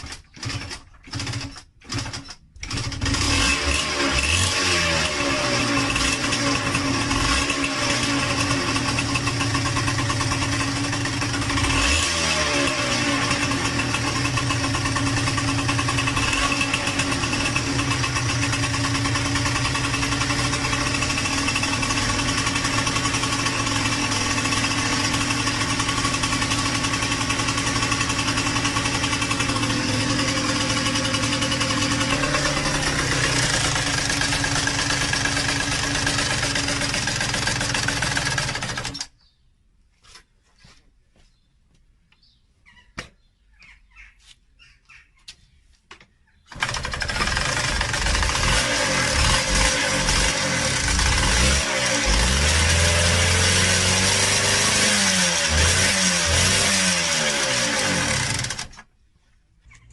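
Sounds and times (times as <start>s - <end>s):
two-stroke engine with knocking rattle: 0.0s - 39.1s, 46.5s - 58.9s.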